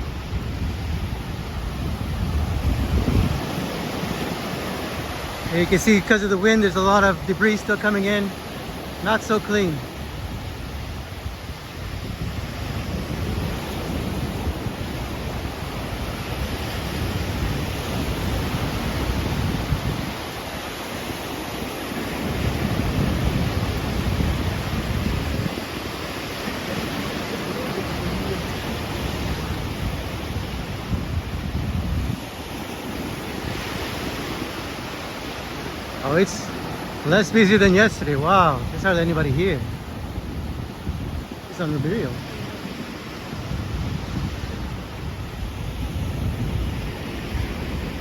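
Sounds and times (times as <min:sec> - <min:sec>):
surf washing onto beach: 0:00.0 - 0:48.0
wind buffeting microphone: 0:00.0 - 0:48.0.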